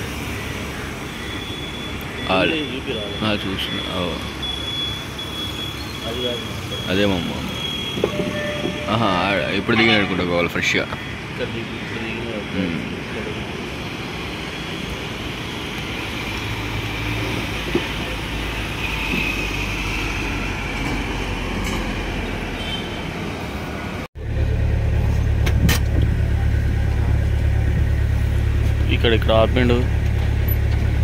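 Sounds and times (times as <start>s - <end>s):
vehicle road and engine noise: 0.0s - 31.0s.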